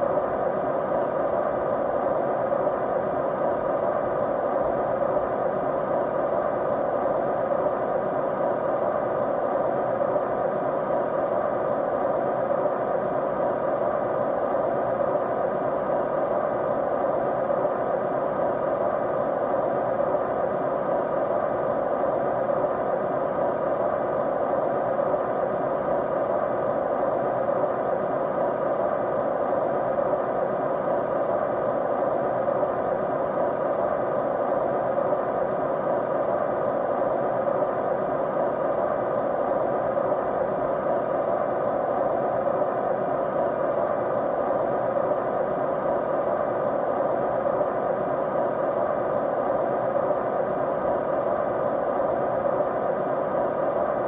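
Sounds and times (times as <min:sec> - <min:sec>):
faint hum tones: 0:00.0 - 0:54.0
white noise hiss: 0:00.0 - 0:54.0.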